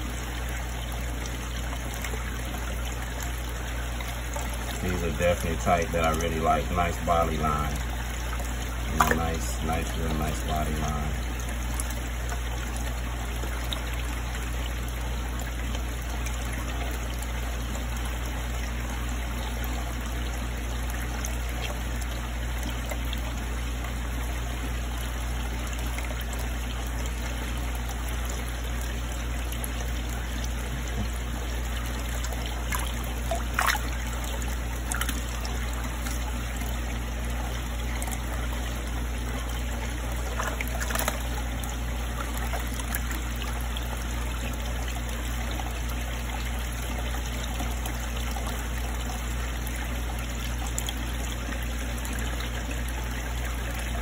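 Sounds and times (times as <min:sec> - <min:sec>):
water trickling in a tank: 0:00.0 - 0:54.0.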